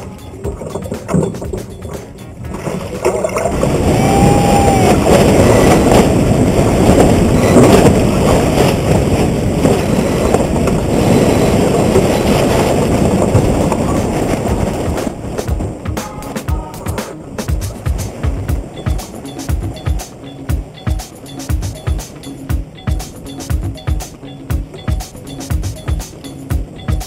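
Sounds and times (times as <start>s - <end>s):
water rushing past hulls: 0.0s - 27.0s
wind buffeting microphone: 0.0s - 27.0s.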